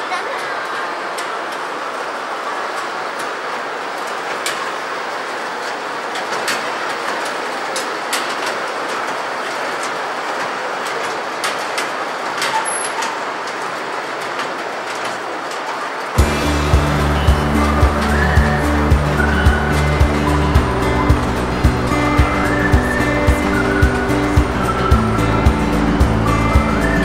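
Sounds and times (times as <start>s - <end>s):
train wheels clicking: 0.0s - 27.0s.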